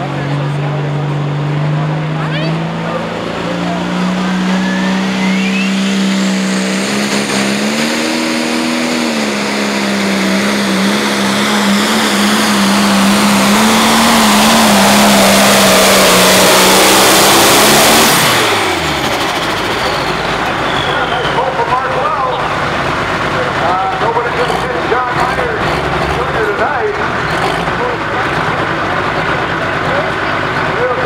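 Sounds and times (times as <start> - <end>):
diesel tractor engine roaring: 0.0 - 31.0
engine winding down: 0.0 - 31.0.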